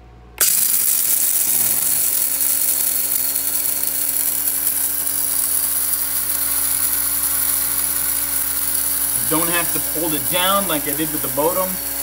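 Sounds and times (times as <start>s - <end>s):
coffee grinder running: 0.4s - 12.0s.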